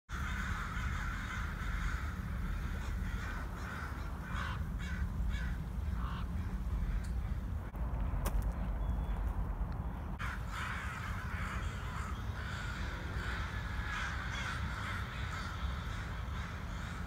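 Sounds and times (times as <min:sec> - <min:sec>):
crows cawing: 0:00.1 - 0:07.7, 0:10.2 - 0:17.0
steady low rumble: 0:00.1 - 0:17.0.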